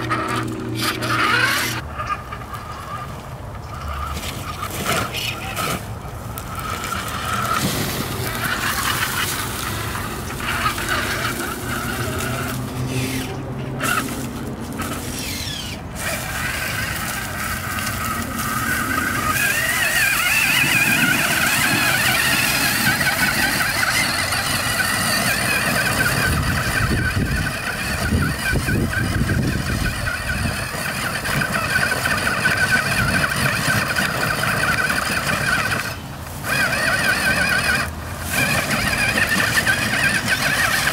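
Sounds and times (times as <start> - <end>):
electric motor and gears whining: 0.0 - 40.9.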